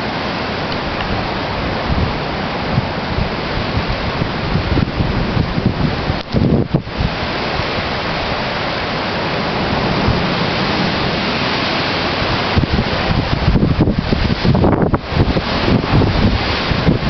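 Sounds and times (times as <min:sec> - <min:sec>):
strong wind rushing: 0:00.0 - 0:17.0
wind buffeting microphone: 0:00.0 - 0:17.0.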